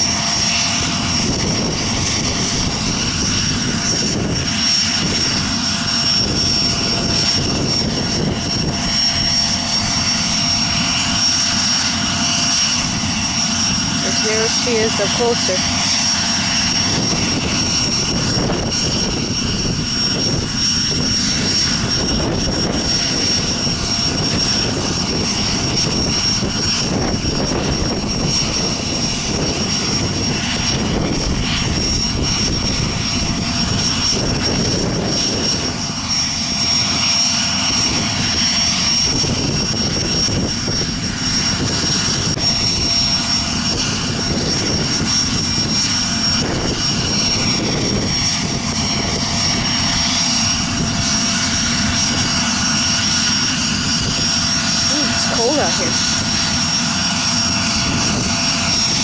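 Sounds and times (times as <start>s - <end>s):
jet engines idling: 0.0s - 59.0s.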